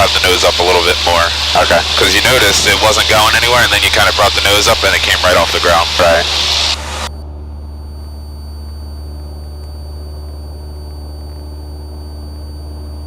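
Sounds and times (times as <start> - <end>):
faint high electrical tones: 0.0 - 13.0
light aircraft engine droning: 0.0 - 13.0.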